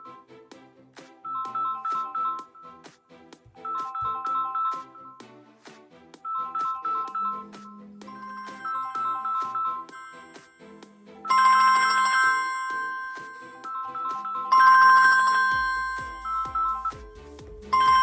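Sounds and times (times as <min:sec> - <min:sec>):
musical phone ringtone: 0:01.2 - 0:02.8, 0:03.6 - 0:05.2, 0:06.2 - 0:18.0.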